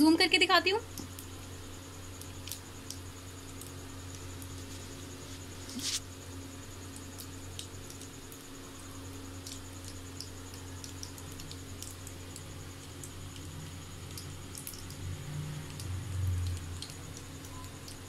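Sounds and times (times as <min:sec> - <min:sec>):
seeds crackling in hot oil: 0:00.0 - 0:18.0
steady low hum: 0:00.0 - 0:18.0.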